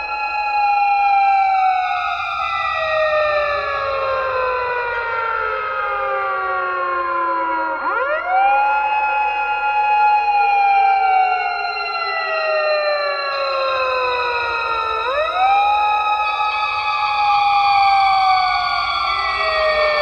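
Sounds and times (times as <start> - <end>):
siren wailing: 0.0 - 20.0.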